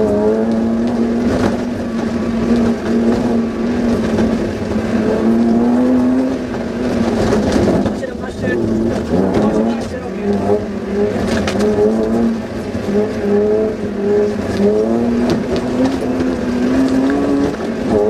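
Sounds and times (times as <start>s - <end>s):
car engine running hard: 0.0s - 18.0s
knocks and rattles: 0.5s - 13.0s, 14.4s - 18.0s.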